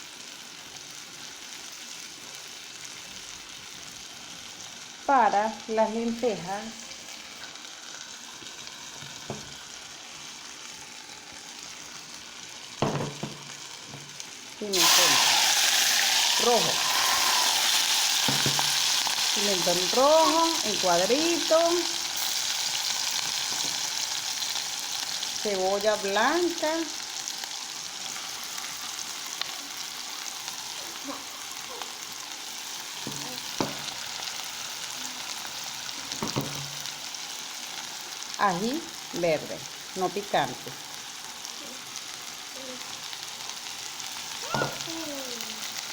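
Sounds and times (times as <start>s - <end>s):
vegetables sizzling in oil: 0.0s - 45.9s.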